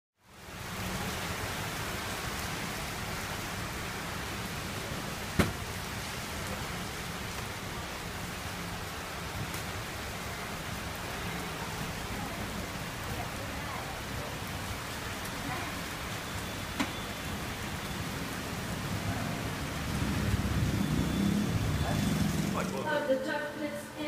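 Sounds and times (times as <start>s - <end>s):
heavy rain on street: 0.2s - 24.0s.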